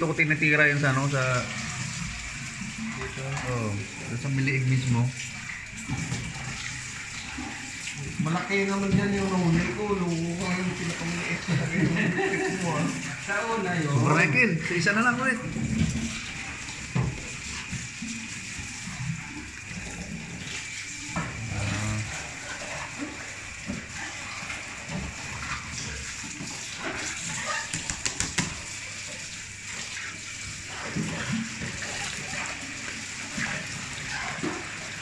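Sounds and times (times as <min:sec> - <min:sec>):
tap water running into tray: 0:00.0 - 0:35.0.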